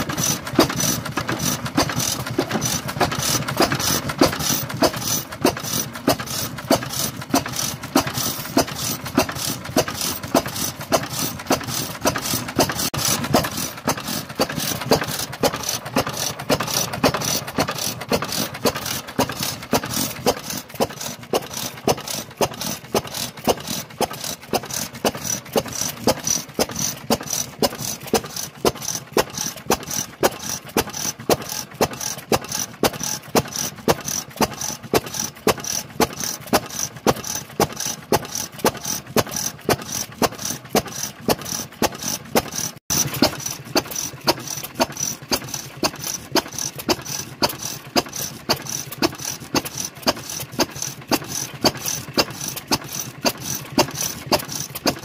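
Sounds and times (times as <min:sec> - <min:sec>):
stationary oil engine knocking: 0:00.0 - 0:55.0.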